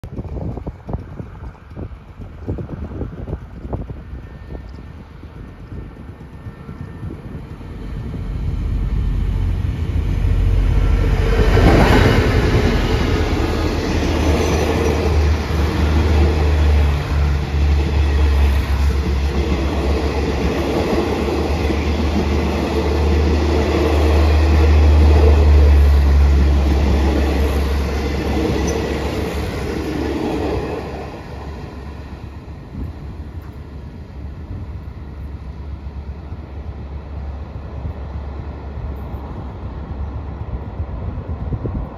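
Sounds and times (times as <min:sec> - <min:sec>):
passenger train passing: 0:00.0 - 0:41.9
wheels rumbling on rail: 0:00.0 - 0:41.9.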